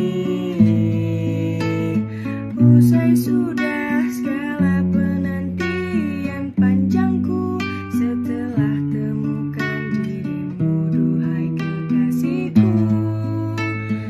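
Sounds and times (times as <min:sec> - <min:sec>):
acoustic guitar chords: 0:00.0 - 0:14.0
person singing: 0:00.0 - 0:14.0.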